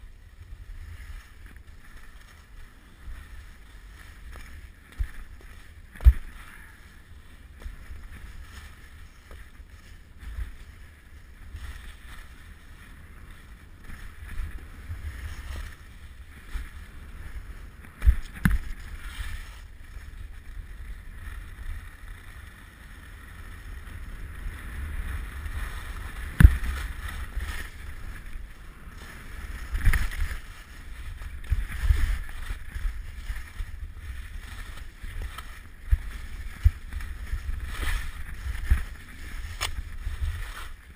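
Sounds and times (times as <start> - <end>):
skis scraping over snow: 0.0 - 40.9
wind rumbling on microphone: 0.0 - 40.9.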